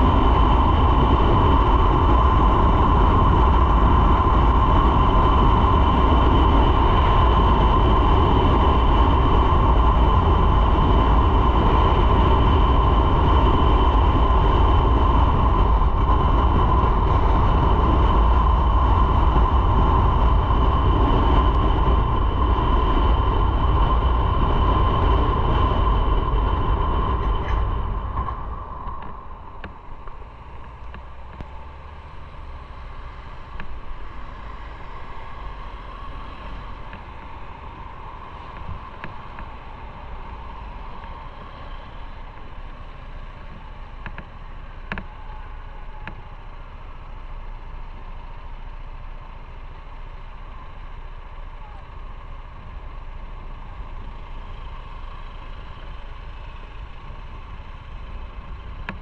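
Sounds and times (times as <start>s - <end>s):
motorcycle engine running: 0.0s - 59.0s
road noise: 0.0s - 59.0s
wind rumble on microphone: 0.0s - 59.0s.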